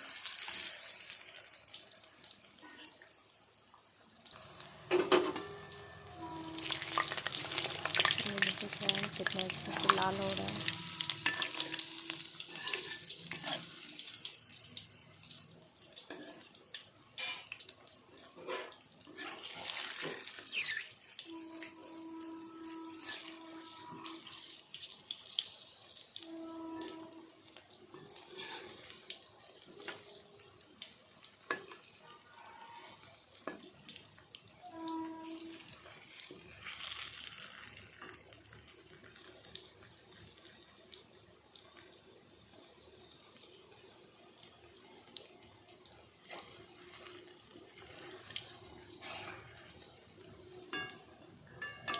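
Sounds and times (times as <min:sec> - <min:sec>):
food sizzling in oil: 0:00.0 - 0:51.9.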